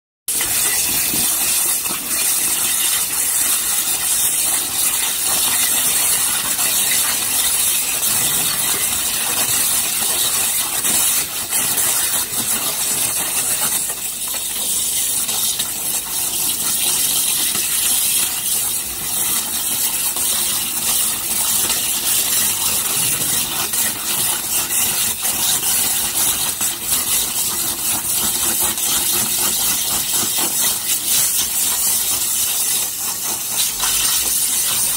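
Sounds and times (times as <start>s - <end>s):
water jet cutter hissing: 0.3s - 34.9s.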